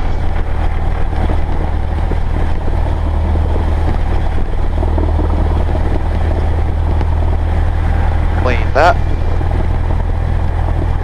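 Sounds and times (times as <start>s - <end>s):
propeller plane engine idling: 0.0s - 11.0s.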